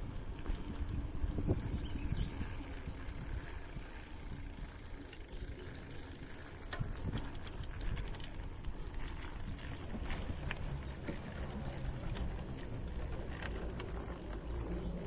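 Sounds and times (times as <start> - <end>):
faint clicks and ticks: 0.0 - 15.0
low steady rumbling: 0.0 - 15.0.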